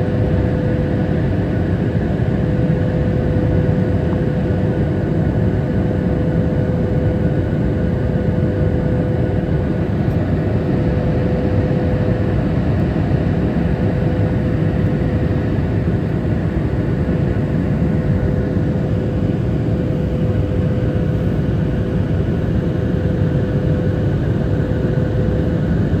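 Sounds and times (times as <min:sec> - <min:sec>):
jet engine cabin noise: 0:00.0 - 0:26.0.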